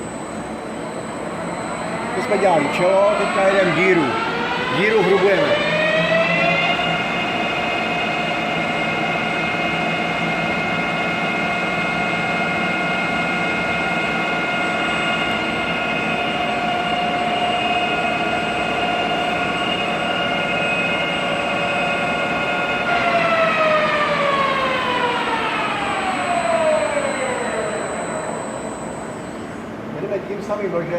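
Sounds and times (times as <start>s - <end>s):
lathe cutting noise: 0.0s - 11.3s, 12.4s - 29.9s
lathe spindle whine: 0.0s - 30.6s.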